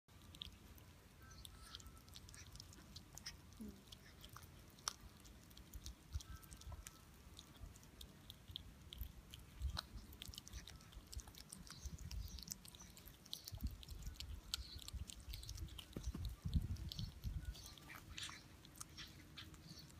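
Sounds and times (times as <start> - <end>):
kittens chewing meat: 0.1 - 19.9
teeth clicking on meat: 0.1 - 19.9.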